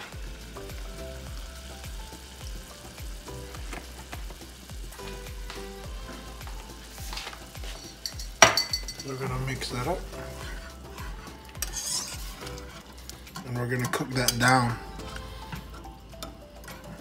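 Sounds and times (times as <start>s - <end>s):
background music with beat: 0.0s - 17.0s
saucepan sizzling softly: 0.0s - 17.0s.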